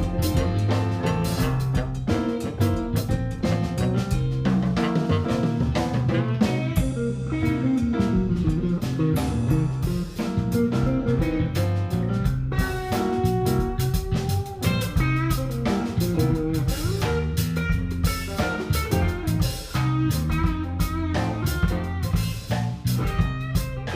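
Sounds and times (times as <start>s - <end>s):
drum kit steady beat: 0.0s - 23.9s
electric guitar playing blues: 0.0s - 23.9s.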